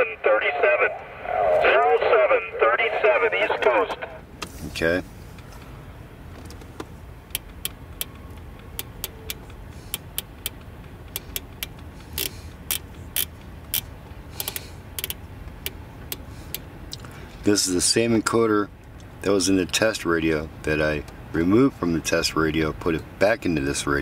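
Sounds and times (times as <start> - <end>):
low steady hum: 0.0 - 21.2.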